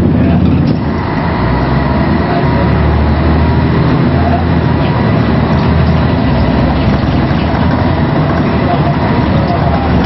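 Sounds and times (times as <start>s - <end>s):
bus diesel engine running: 0.0s - 10.0s
road and body noise: 0.0s - 10.0s.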